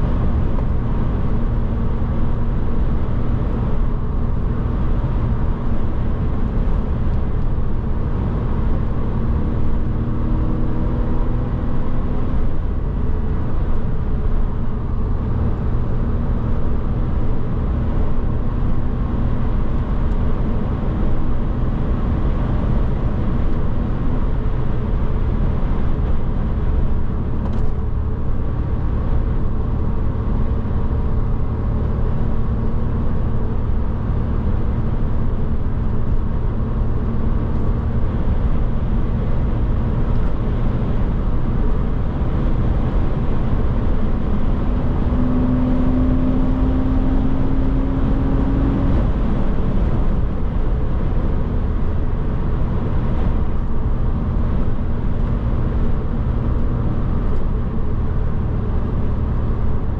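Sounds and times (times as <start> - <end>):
car engine cruising: 0.0 - 59.9.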